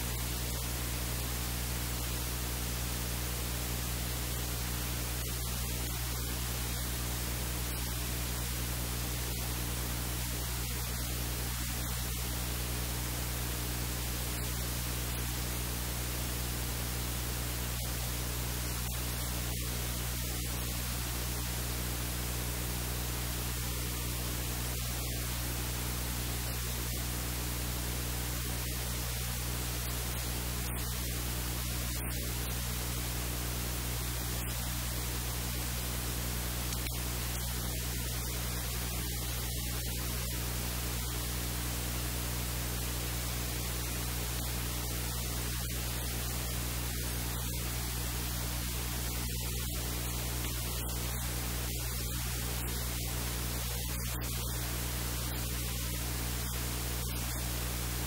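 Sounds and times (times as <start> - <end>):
constant electrical hum: 0.0 - 58.0
steady hiss: 0.0 - 58.0.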